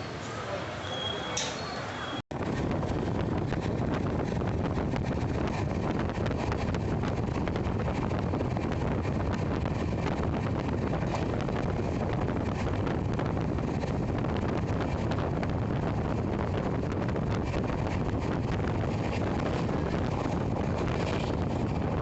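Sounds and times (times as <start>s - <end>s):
train running: 0.0s - 22.0s
wind buffeting microphone: 2.3s - 22.0s.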